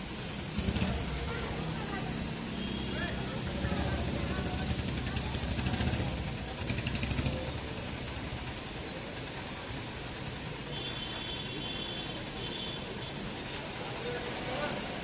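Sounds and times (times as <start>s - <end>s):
auto-rickshaw engines: 0.0s - 15.0s
motorbike engines: 0.0s - 15.0s.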